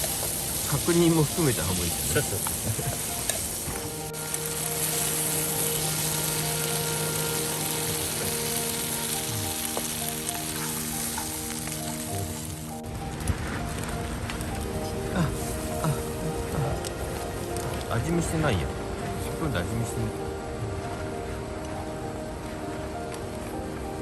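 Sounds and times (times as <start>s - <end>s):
food sizzling in a pan: 0.0s - 13.8s, 14.5s - 20.2s
soft background music: 0.0s - 24.0s.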